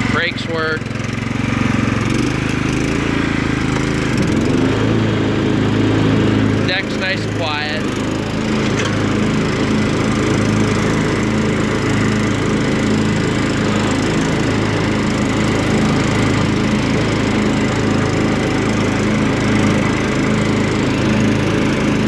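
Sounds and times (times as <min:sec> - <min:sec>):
riding mower engine running: 0:00.0 - 0:22.0.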